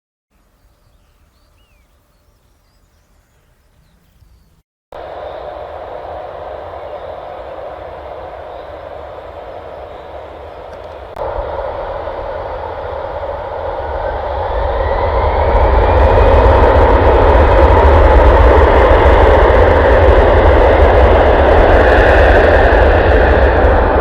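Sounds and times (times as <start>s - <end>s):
jet engines with rising whine: 4.5s - 24.0s.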